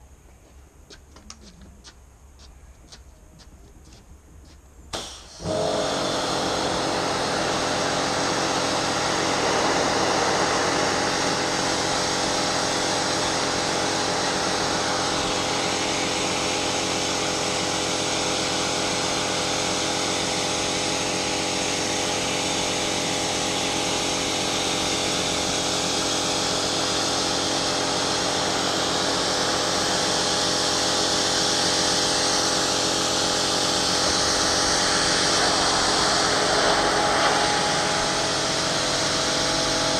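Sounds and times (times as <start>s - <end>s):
high-pressure water jet hissing: 4.9s - 39.9s
pressure washer motor humming: 5.0s - 39.9s.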